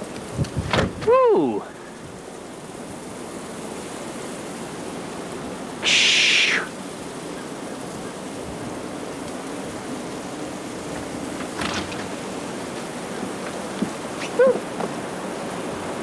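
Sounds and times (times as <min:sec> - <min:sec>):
high wind hiss: 0:00.0 - 0:16.0.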